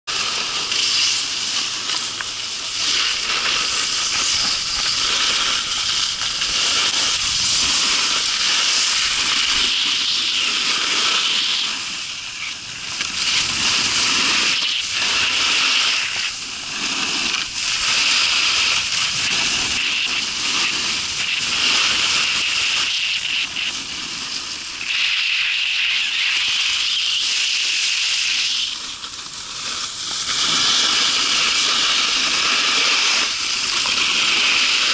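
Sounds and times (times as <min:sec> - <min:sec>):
snowboards scraping over snow: 0:00.1 - 0:34.9.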